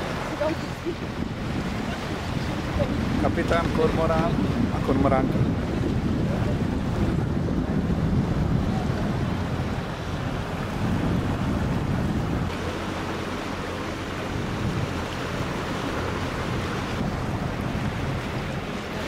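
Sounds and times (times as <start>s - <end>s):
water washing past boat: 0.0s - 19.0s
wind buffeting microphone: 0.0s - 19.0s.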